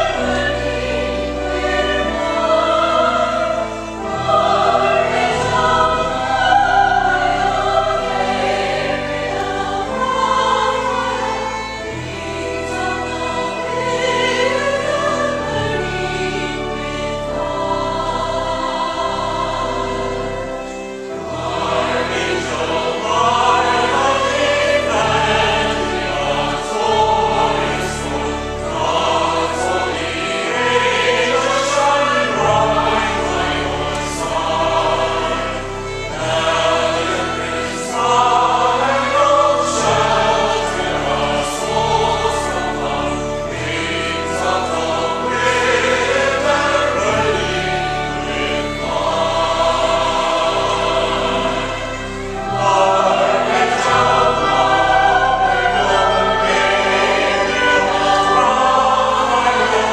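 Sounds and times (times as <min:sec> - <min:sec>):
choir singing a hymn: 0:00.0 - 0:59.9
pipe organ low notes: 0:00.0 - 0:59.9.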